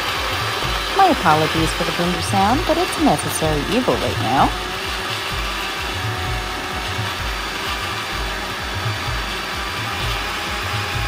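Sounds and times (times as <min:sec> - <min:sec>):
blender motor whirring: 0:00.0 - 0:11.0.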